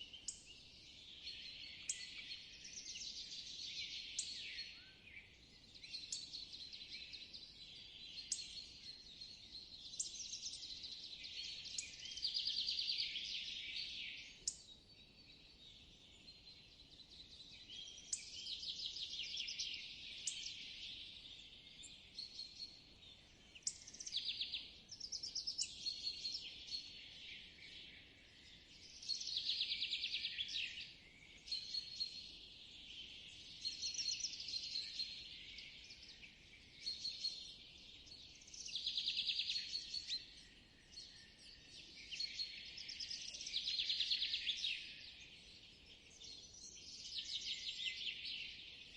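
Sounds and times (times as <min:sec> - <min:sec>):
birds chirping and trilling: 0:00.0 - 0:48.9.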